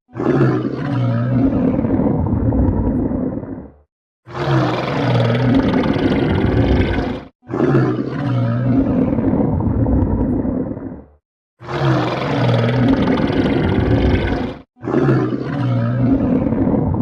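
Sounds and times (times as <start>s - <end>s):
stomach growling: 0.1s - 17.0s.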